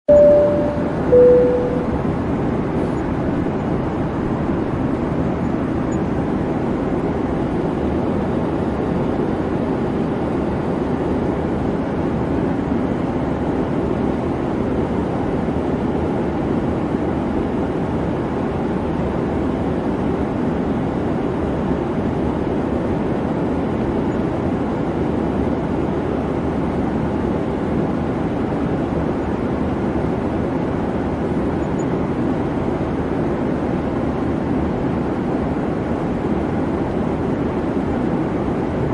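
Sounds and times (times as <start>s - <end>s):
airliner cabin engine rush: 0.1s - 38.9s.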